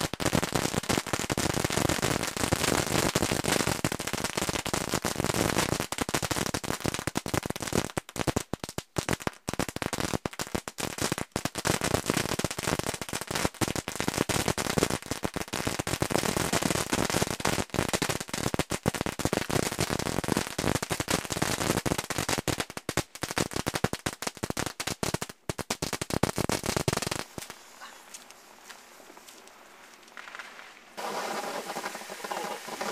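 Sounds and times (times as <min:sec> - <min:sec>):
fireworks popping and crackling: 0:00.0 - 0:32.9.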